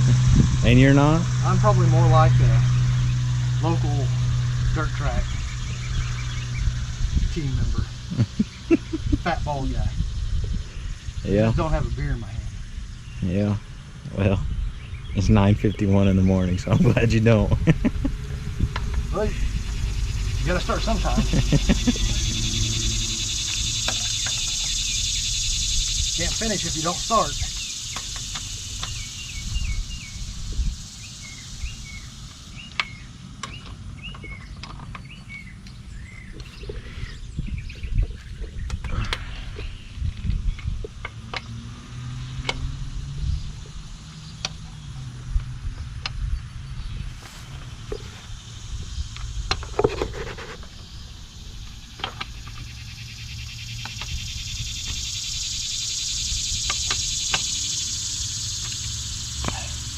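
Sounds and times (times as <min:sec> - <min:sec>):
cicadas buzzing: 0:00.0 - 0:59.9
steady low hum: 0:00.0 - 0:59.9
small bird chirping: 0:00.2 - 0:41.6, 0:46.1 - 0:59.9.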